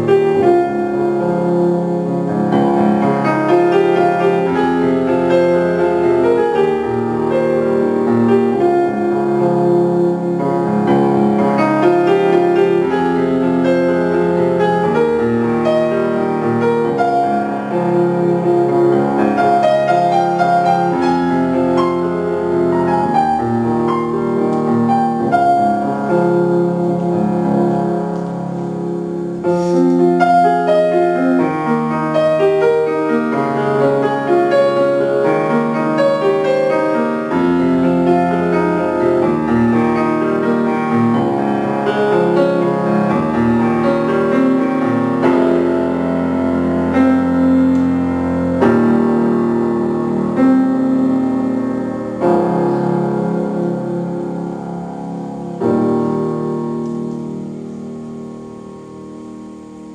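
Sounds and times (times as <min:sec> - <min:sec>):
solo grand piano: 0:00.0 - 0:59.9.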